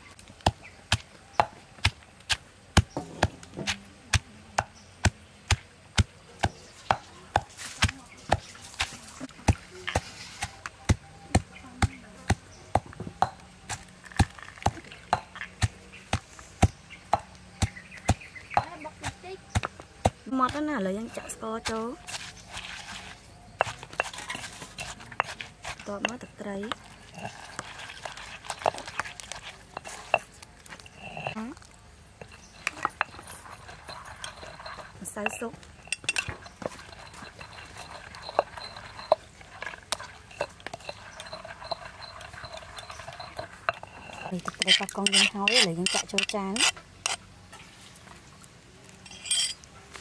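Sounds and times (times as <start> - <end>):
stone pestle knocking and scraping: 0.4 - 47.2.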